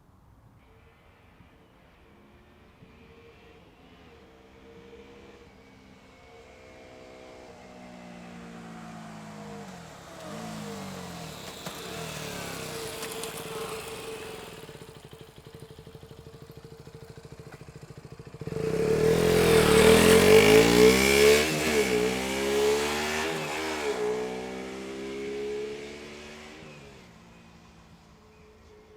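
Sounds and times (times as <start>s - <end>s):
motorcycle engine accelerating: 1.9s - 28.9s.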